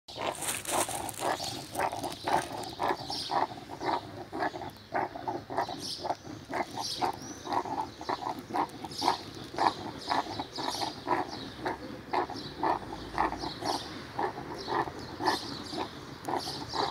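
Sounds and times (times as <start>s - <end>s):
dog grunting: 0.1s - 16.9s.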